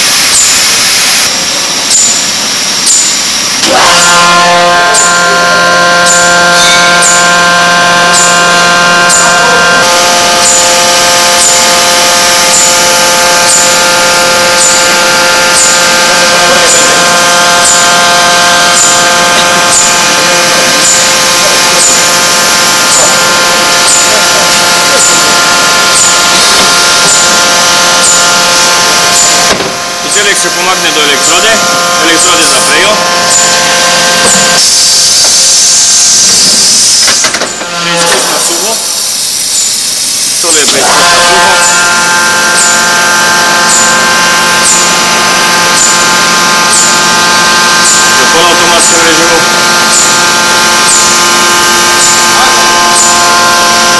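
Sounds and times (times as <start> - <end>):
machine humming: 0.0 - 53.9.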